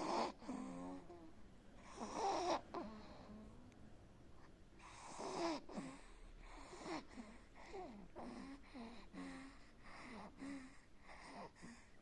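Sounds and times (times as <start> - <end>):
wheezy snoring: 0.0 - 3.6, 4.8 - 12.0.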